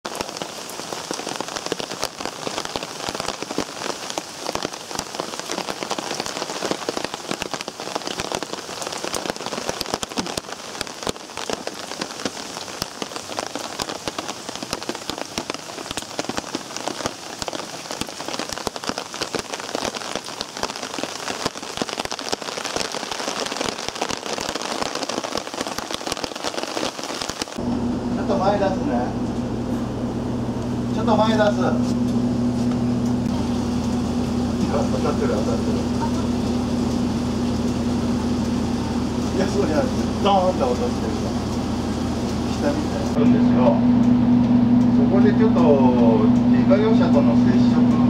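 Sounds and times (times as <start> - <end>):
close raindrops hitting: 0.0 - 48.0
heavy rain: 0.0 - 48.0.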